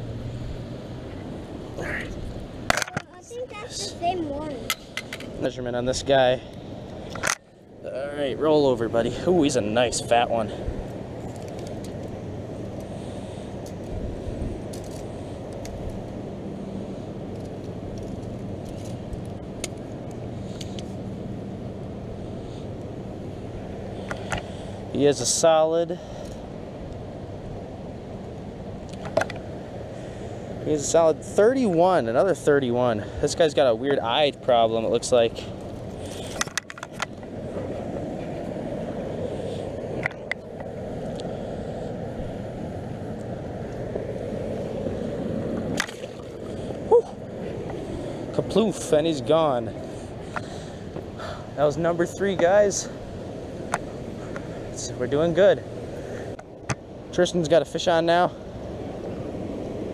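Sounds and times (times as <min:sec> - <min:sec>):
faint hum: 0:00.0 - 0:59.9
low outdoor rumble: 0:00.0 - 0:59.9.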